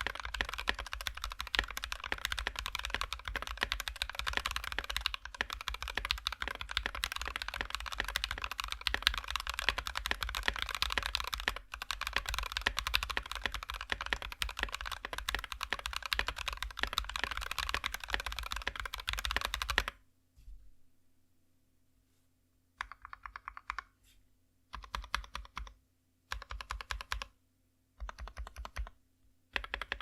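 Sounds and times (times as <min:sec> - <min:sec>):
fast mechanical keyboard typing: 0:00.0 - 0:20.0, 0:22.8 - 0:23.8, 0:24.7 - 0:27.3, 0:28.0 - 0:30.0.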